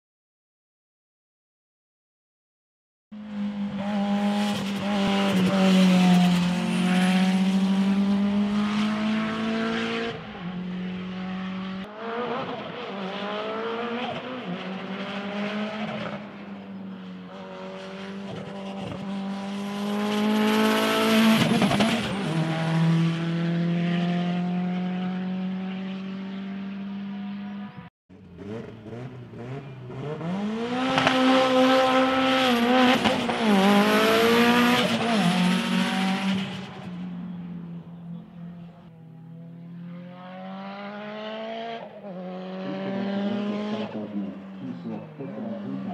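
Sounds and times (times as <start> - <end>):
race car engine revving past: 3.2 - 45.9.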